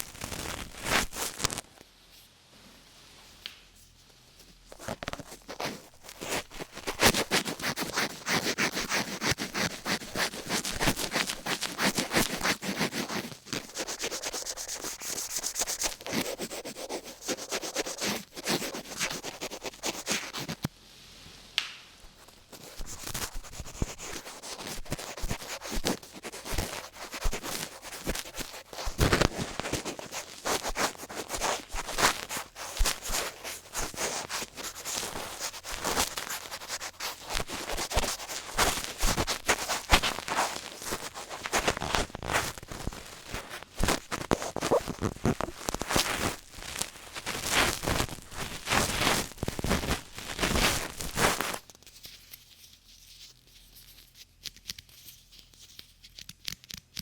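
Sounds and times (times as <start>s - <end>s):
rubbing and scratching on microphone: 0.0s - 1.7s, 3.8s - 20.7s, 22.0s - 56.6s.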